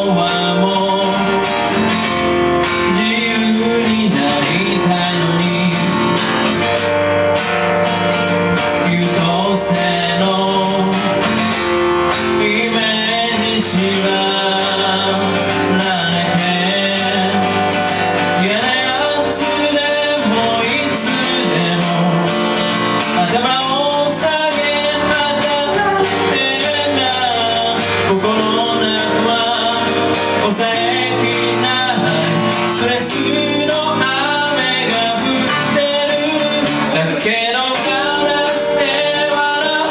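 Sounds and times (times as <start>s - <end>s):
keyboard playing: 0.0s - 39.9s
person singing: 0.0s - 39.9s
strummed acoustic guitar: 0.0s - 39.9s.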